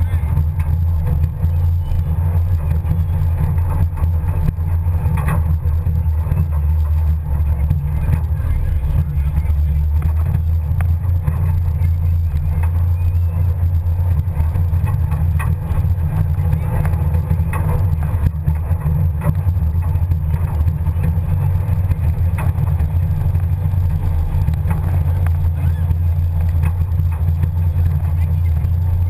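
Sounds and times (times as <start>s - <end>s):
off-road truck engine rumble: 0.0s - 29.0s.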